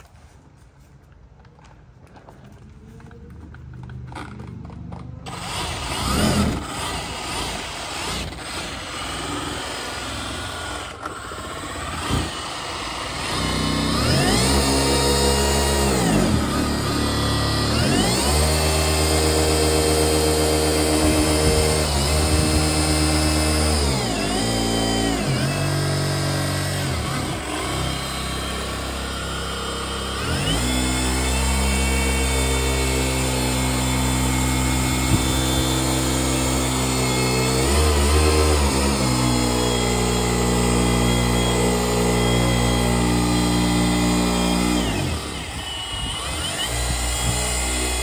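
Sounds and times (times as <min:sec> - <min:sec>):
polisher motor whine: 0:05.2 - 0:48.0.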